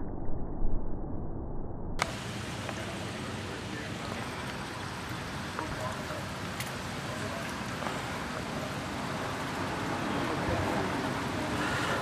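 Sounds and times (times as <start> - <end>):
low rumble and hiss: 2.0 - 12.0.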